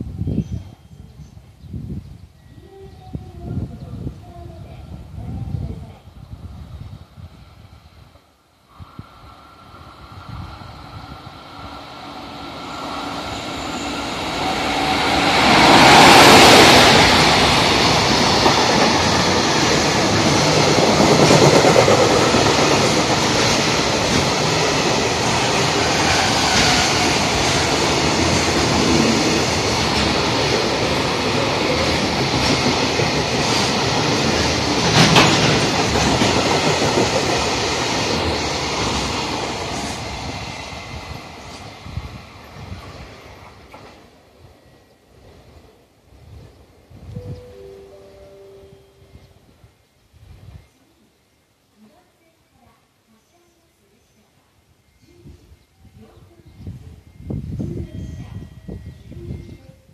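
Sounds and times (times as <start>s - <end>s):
freight train passing: 2.4s - 50.7s, 55.2s - 59.9s.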